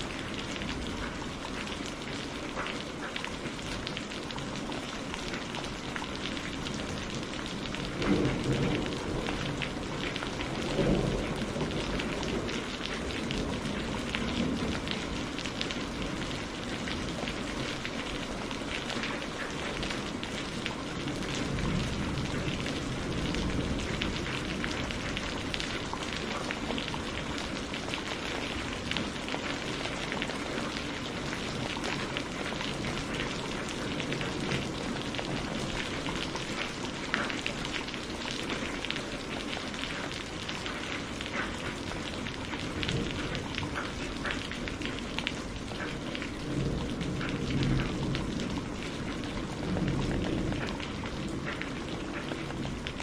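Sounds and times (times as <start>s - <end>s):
heavy rain falling: 0.0s - 53.0s
low thunder rumbling: 5.0s - 39.4s, 40.4s - 53.0s.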